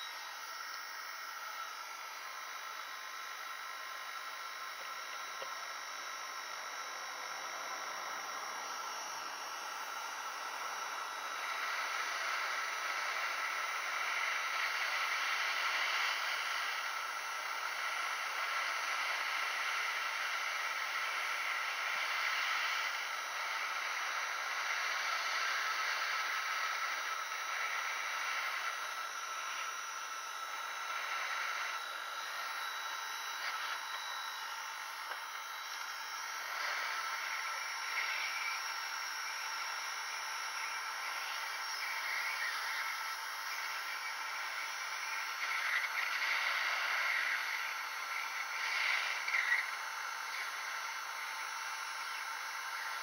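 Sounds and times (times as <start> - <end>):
hot air gun hissing: 0.0 - 53.0.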